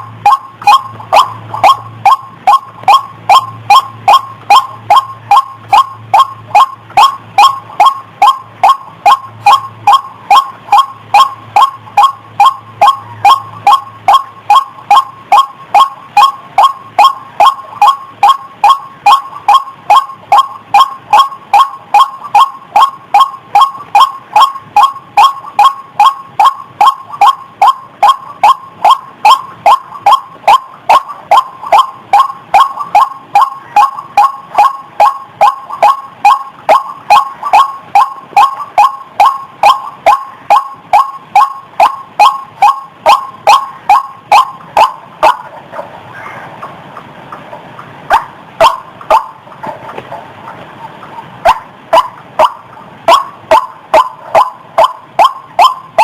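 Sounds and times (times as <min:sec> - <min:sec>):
waterhen call: 0:00.0 - 0:56.0.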